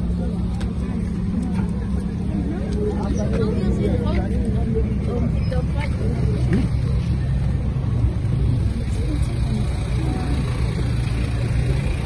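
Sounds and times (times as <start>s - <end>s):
faint voices talking: 0.0s - 12.0s
vehicle engine rumbling: 0.0s - 12.0s.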